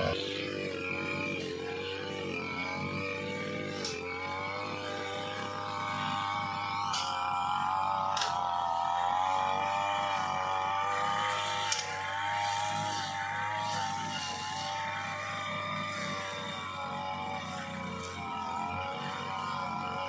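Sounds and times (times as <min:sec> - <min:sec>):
brush cutter engine cutting grass: 0:00.0 - 0:20.0.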